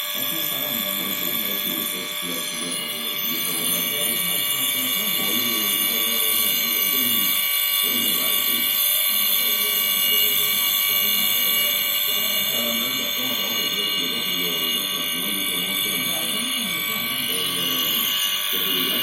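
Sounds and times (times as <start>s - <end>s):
air compressor whining: 0.0s - 19.0s.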